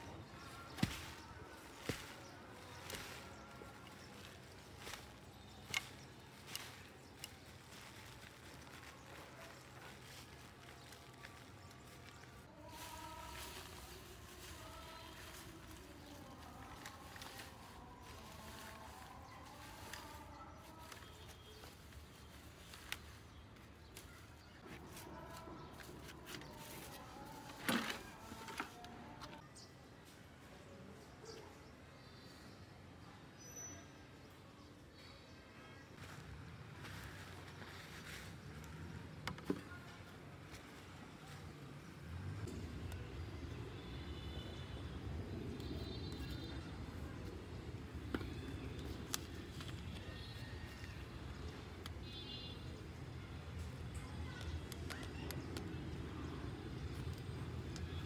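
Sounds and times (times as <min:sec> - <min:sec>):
rustling of leafy plant cuttings: 0:00.0 - 0:29.4, 0:35.9 - 0:58.0.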